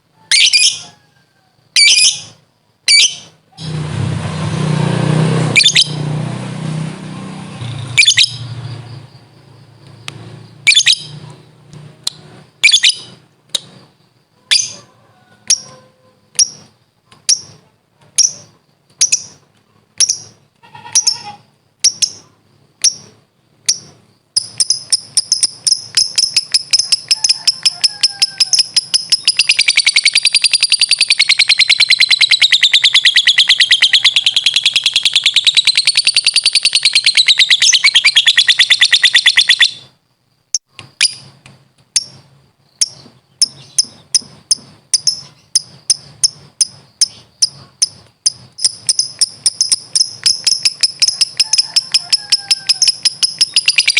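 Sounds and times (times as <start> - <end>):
lovebird chirping and chattering: 0.3 - 0.9, 1.8 - 3.8, 5.5 - 6.0, 7.5 - 19.4, 20.0 - 41.3, 42.0 - 53.9.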